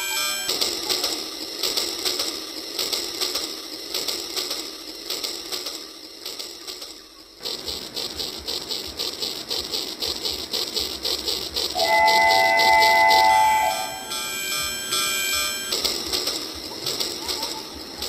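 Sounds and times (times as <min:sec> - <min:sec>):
toy train motor whirring and clicking: 0:00.0 - 0:18.0.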